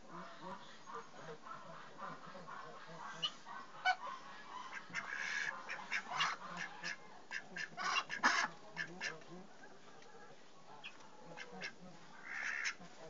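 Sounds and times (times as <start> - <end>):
ducks quacking: 0.0 - 9.5, 10.7 - 13.0.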